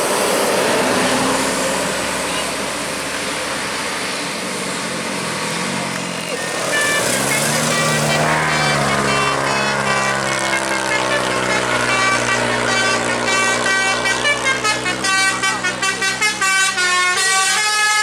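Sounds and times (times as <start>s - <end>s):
bus horn playing a melody: 0.0s - 3.3s, 6.2s - 18.0s.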